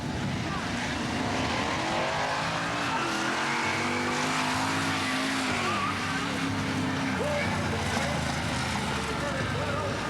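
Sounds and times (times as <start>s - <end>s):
monster truck engine running hard: 0.0s - 10.0s.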